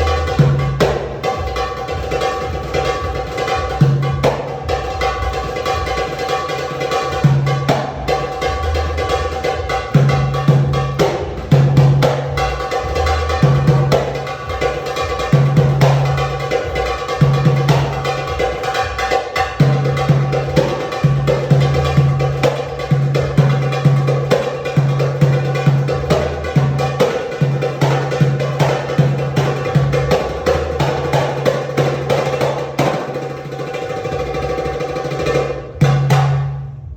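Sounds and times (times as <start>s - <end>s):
tabla playing: 0.0s - 36.9s.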